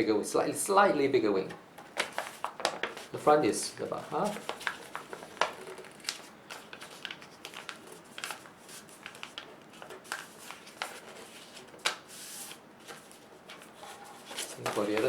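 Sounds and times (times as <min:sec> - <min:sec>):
paper crinkling and rustling: 0:01.8 - 0:15.0.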